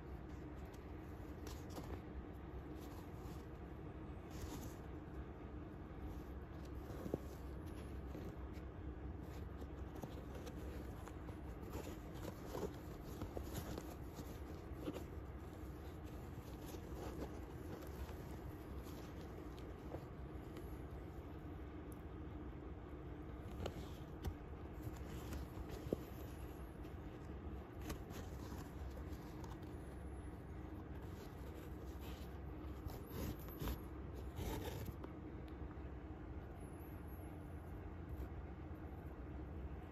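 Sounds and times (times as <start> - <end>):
shoe rustling being handled: 0.0 - 39.9
steady low hum: 0.0 - 39.9.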